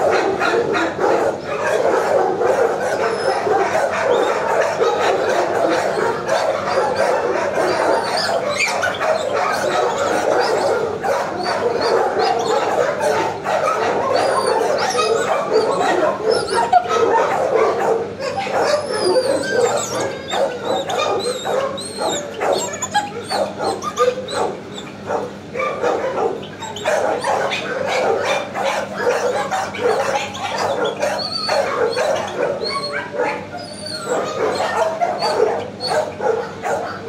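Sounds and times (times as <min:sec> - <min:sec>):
dogs barking: 0:00.0 - 0:37.0
dogs yipping and whining: 0:00.0 - 0:37.0.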